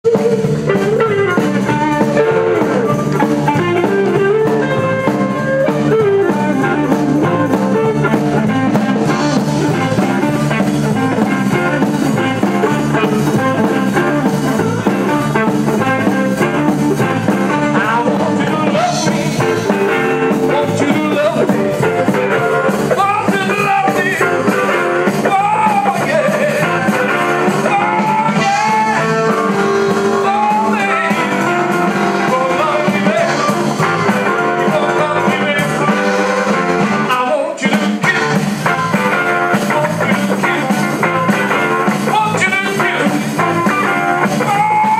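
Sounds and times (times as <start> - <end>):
bending lead guitar line: 0.0 - 44.9
live blues band playing: 0.0 - 44.9.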